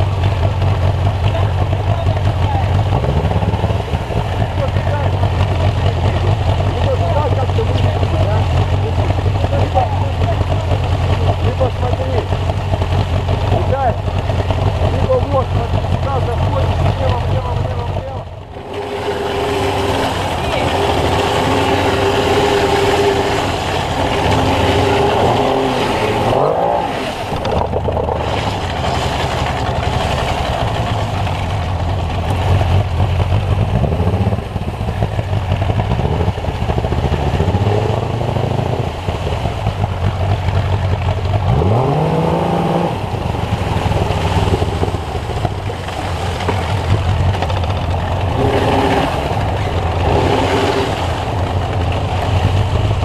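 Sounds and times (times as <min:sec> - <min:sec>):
outboard motor revving: 0:00.0 - 0:53.0
rushing river water: 0:00.0 - 0:53.0.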